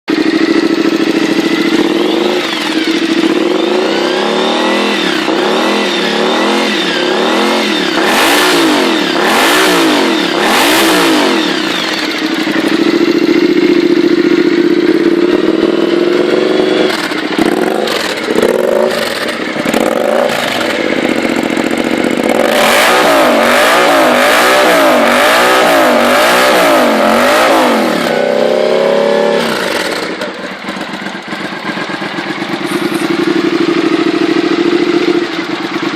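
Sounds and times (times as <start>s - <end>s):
motorcycle engine revving: 0.1s - 35.9s.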